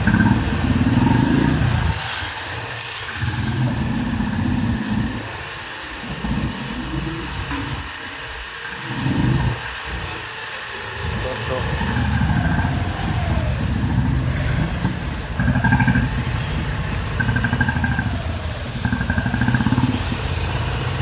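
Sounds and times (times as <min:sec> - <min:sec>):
motorcycles riding slowly: 0:00.0 - 0:21.0.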